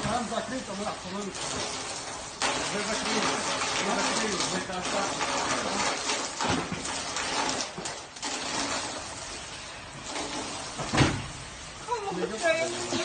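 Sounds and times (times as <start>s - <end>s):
water spraying from a pipe: 0.0s - 13.0s.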